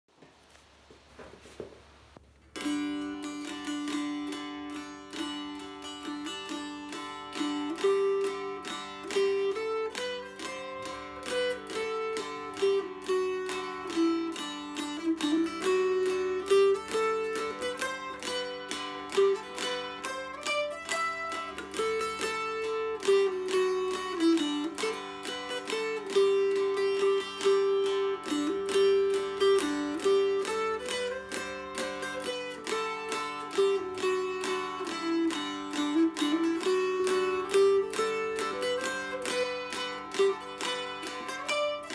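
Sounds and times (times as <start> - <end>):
mountain dulcimer strummed: 2.5 - 41.9.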